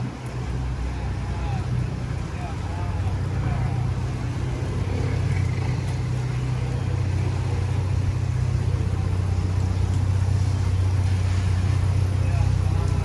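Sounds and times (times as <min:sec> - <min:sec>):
street noise: 0:00.0 - 0:13.0
vehicle engine droning: 0:00.0 - 0:13.0.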